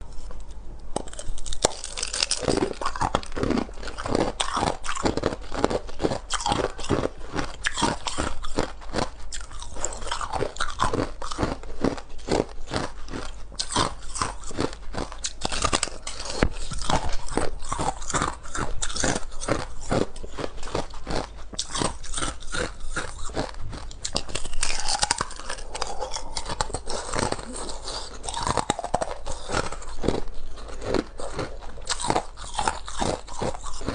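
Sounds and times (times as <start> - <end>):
ice being chewed: 0.1 - 33.9.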